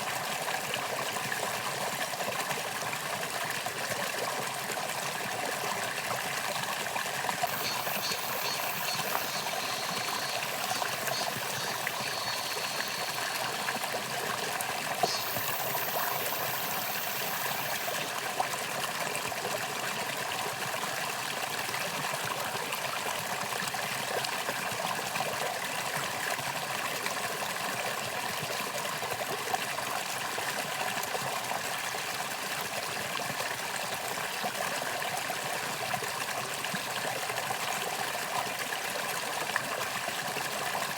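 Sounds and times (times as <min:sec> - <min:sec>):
stream rushing and trickling: 0:00.0 - 0:40.9.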